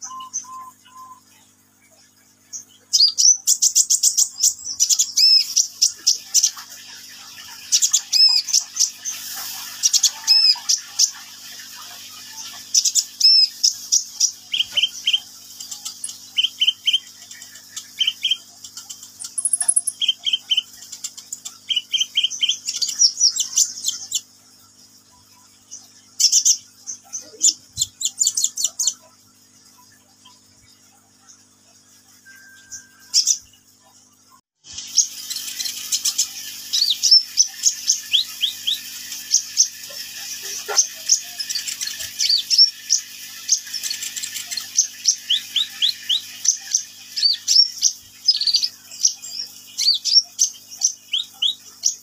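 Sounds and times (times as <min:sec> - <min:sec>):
bird chittering trills: 0:00.0 - 0:52.0.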